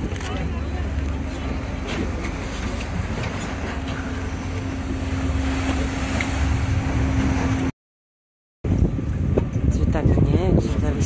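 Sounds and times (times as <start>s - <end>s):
boat engines rumbling: 0.0s - 7.7s, 8.7s - 11.0s.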